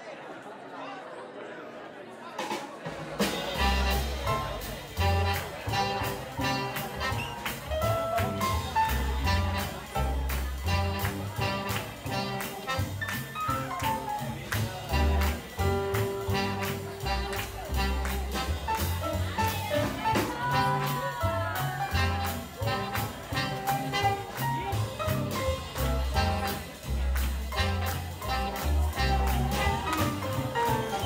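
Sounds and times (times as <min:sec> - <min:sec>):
swing jazz band playing: 0:02.5 - 0:31.0.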